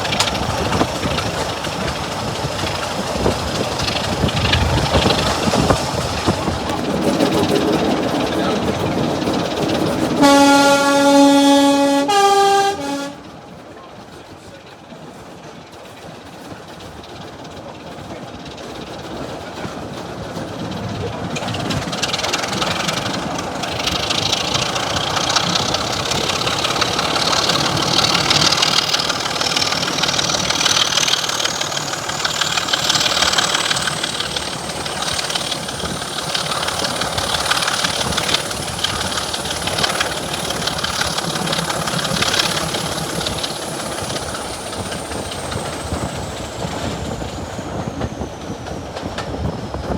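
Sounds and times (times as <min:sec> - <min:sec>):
diesel locomotive engine: 0:00.0 - 0:49.9.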